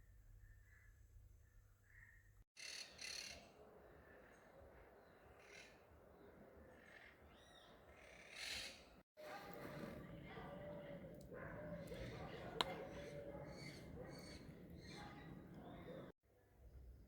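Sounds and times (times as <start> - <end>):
faint birds chirping: 0.2 - 16.2.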